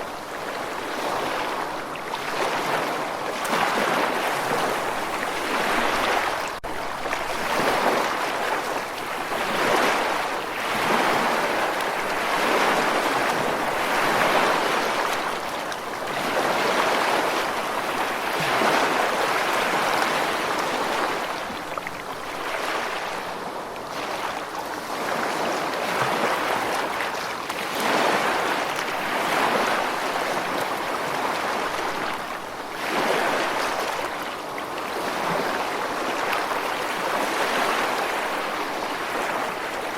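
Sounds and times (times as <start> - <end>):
ocean waves washing: 0.0 - 39.9.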